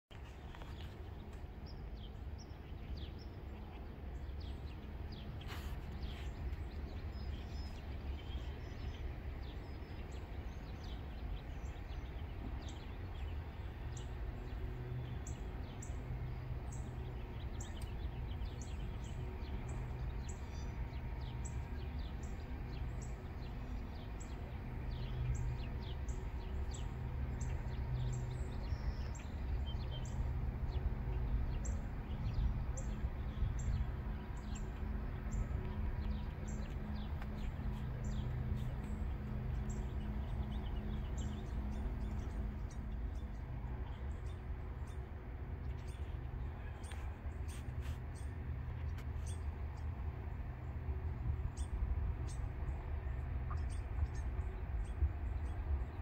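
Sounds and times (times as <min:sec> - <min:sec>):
steady low rumble: 0:00.1 - 0:56.0
small birds chirping: 0:00.2 - 0:56.0.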